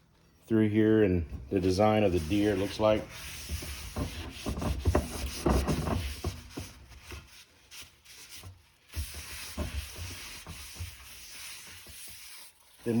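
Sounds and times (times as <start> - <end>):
paper towel rubbing metal lid: 1.5 - 13.0.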